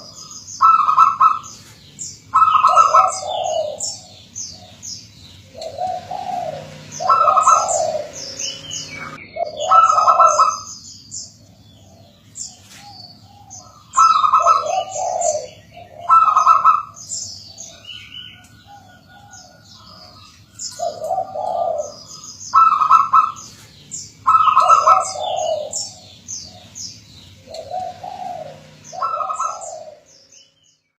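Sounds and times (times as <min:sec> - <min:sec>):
dove cooing: 0:00.0 - 0:10.8, 0:11.4 - 0:30.4
small birds chirping: 0:00.0 - 0:30.9.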